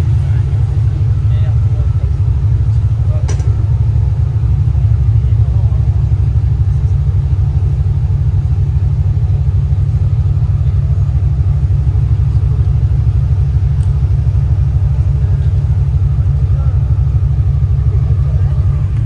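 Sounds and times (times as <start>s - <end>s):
diesel engines rumbling at low revs: 0.0s - 19.0s.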